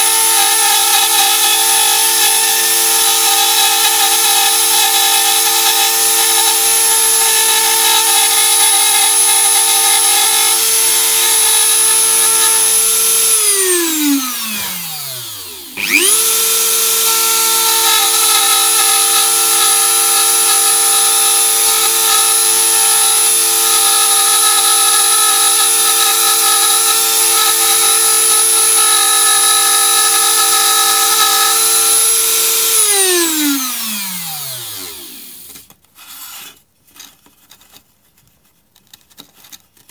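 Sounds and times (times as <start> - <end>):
rotary tool whining: 0.0 - 36.6.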